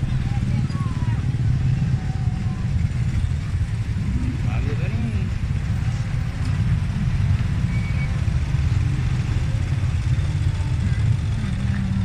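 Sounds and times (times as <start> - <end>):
motorcycle and car engines running: 0.0 - 12.0.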